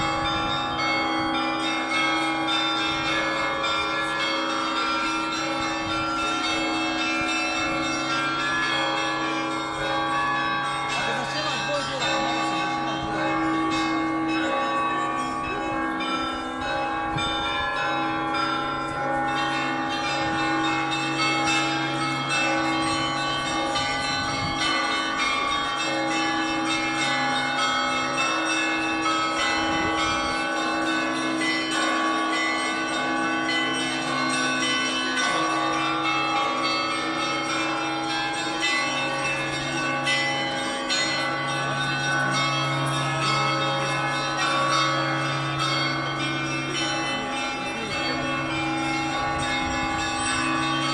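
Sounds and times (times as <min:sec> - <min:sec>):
bells ringing: 0:00.0 - 0:50.9.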